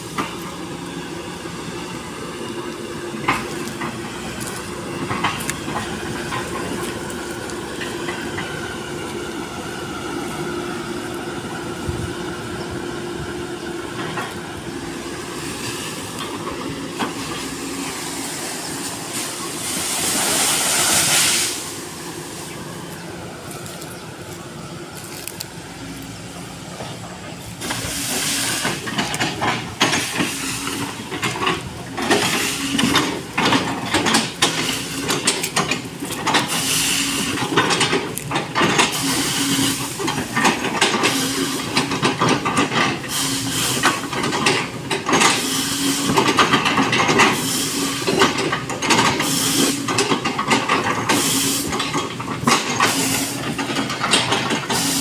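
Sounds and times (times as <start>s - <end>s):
excavator diesel engine: 0.0s - 55.0s
hydraulic pump whine: 0.0s - 55.0s
loud rushing hiss: 0.0s - 55.0s.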